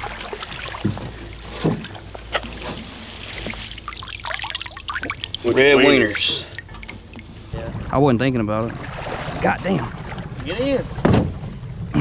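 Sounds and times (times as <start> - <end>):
sharp water splashes: 0.0 - 7.9, 8.6 - 10.3
water sloshing around waders: 0.0 - 7.9, 8.6 - 11.0.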